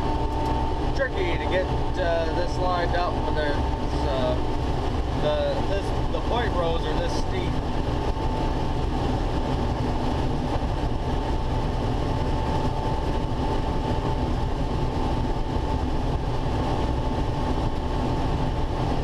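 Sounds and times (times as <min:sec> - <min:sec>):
combine harvester running: 0:00.0 - 0:19.0
steady high whine: 0:00.0 - 0:19.0.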